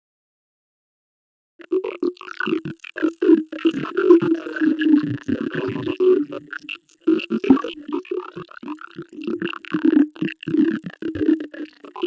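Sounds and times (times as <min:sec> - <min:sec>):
alien gibberish voice: 0:01.6 - 0:12.0.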